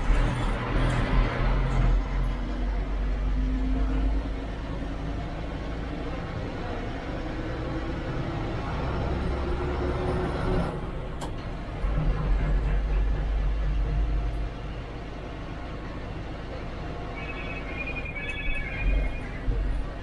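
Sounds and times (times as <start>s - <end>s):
bus diesel engine running: 0.0s - 20.0s
road noise: 0.0s - 20.0s.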